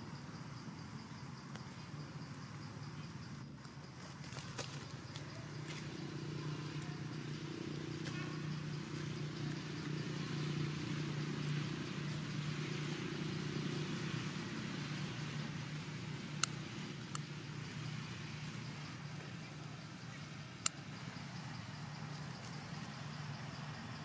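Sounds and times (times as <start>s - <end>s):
motor engine humming: 1.0s - 24.0s.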